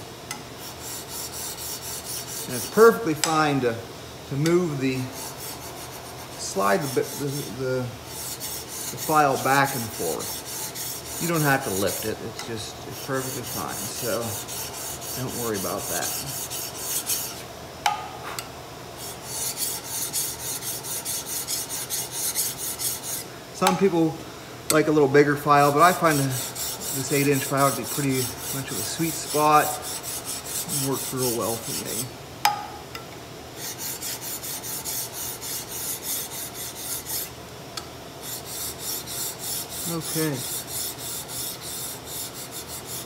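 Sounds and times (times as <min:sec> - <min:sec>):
file rasping on metal: 0:00.6 - 0:03.4, 0:05.0 - 0:17.4, 0:19.0 - 0:23.3, 0:25.5 - 0:32.1, 0:33.6 - 0:37.4, 0:38.2 - 0:43.0.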